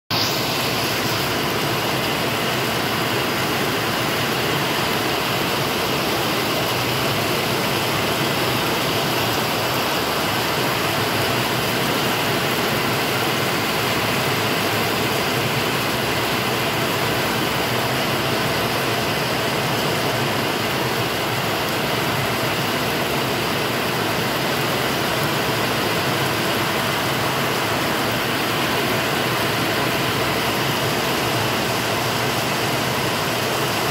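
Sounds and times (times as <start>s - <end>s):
heavy rain on concrete: 0.1s - 33.9s.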